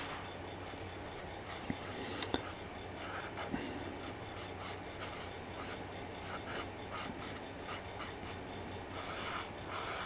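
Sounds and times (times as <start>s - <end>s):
pencil scratching on paper: 1.2s - 10.0s.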